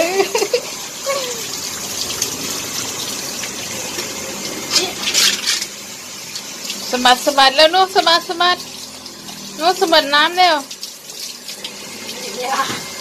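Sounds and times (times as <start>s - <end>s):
water gushing from garden hose: 0.0s - 13.0s
water splashing on dog and concrete: 0.0s - 13.0s.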